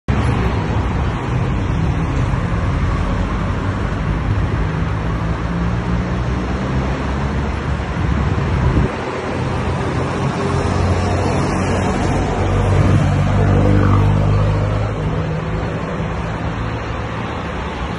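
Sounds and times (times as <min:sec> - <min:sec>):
road traffic passing: 0:00.1 - 0:17.9.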